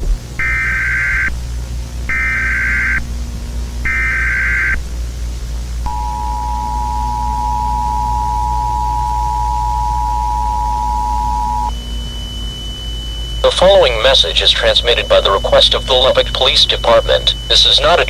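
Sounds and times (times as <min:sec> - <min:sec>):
two-tone attention signal: 0:00.4 - 0:01.4, 0:02.1 - 0:03.0, 0:03.8 - 0:04.8, 0:05.8 - 0:18.0
screeching digital data bursts: 0:00.4 - 0:18.0.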